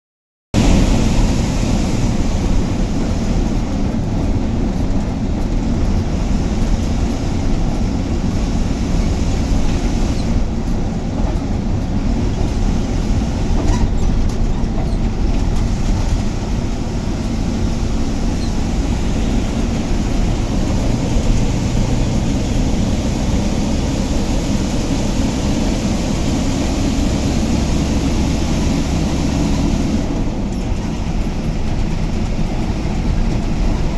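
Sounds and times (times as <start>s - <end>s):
bus engine and road rumble: 0.6s - 33.9s.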